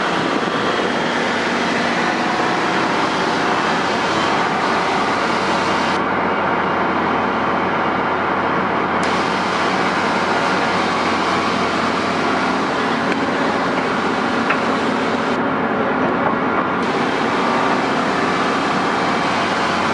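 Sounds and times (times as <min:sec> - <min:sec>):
diesel machinery engine drone: 0:00.0 - 0:19.9.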